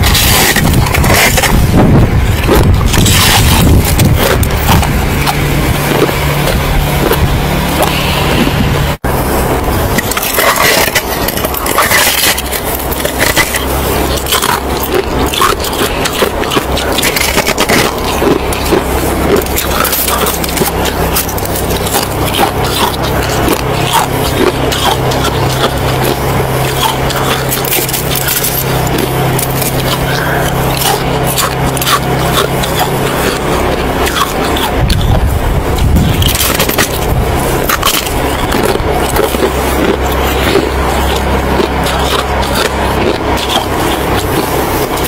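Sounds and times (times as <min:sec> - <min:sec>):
chewing crunchy snow: 0:00.0 - 0:45.0
low hum: 0:00.0 - 0:45.0.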